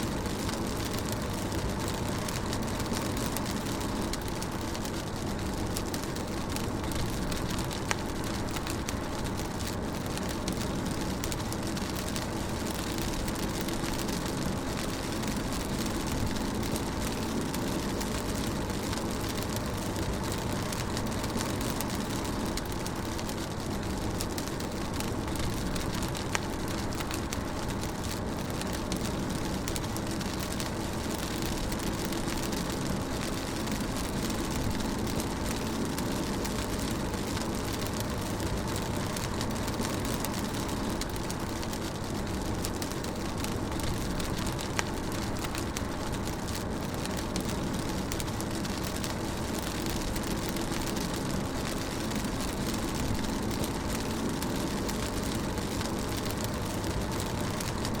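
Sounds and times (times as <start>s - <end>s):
rain hissing on car: 0.0s - 58.0s.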